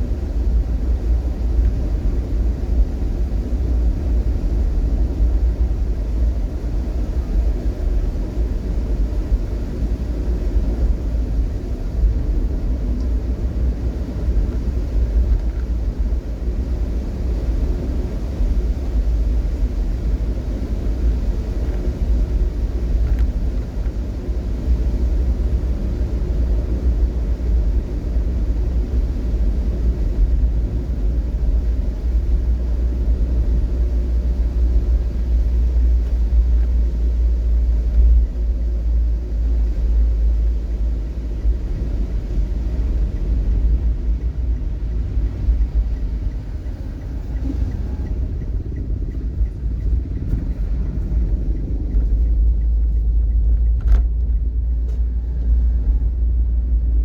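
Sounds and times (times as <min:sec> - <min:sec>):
vehicle rumble in traffic: 0:00.0 - 0:57.0.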